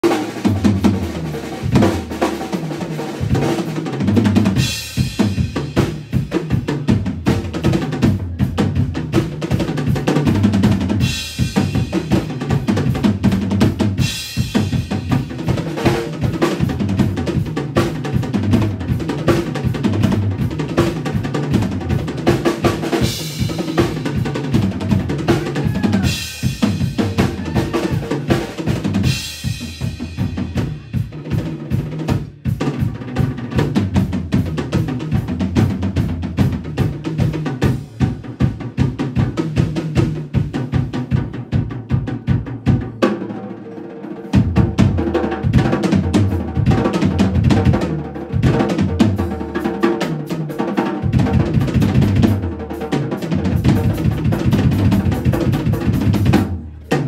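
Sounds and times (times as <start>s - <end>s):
drum kit solo: 0.0s - 57.0s.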